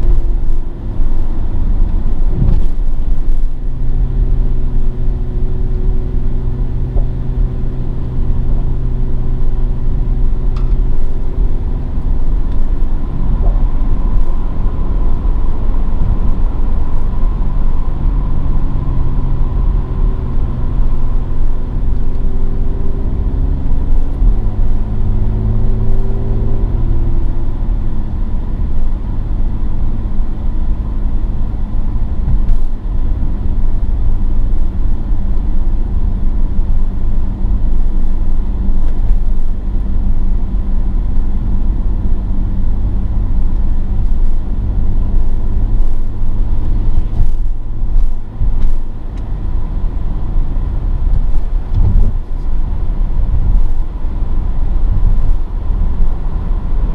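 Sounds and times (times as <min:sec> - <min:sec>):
car engine accelerating: 0:00.0 - 0:56.9
road and wind rumble: 0:00.0 - 0:56.9.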